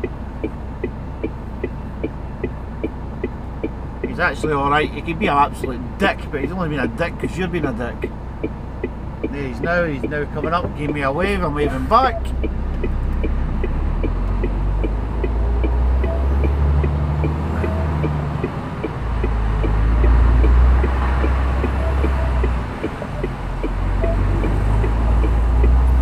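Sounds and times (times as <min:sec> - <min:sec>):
lorry diesel engine running: 0:00.0 - 0:26.0
steady faint ticking: 0:00.0 - 0:26.0.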